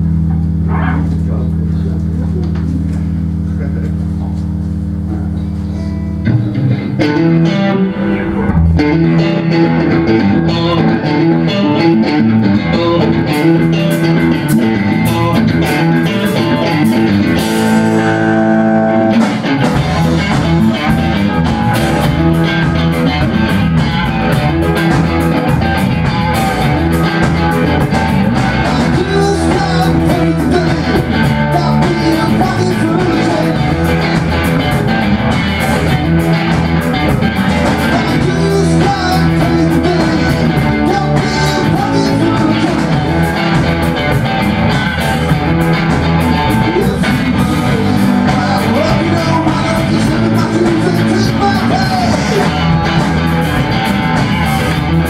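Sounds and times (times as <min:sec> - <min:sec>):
electric guitars: 0:00.0 - 0:55.0
drum kit beat: 0:06.2 - 0:55.0.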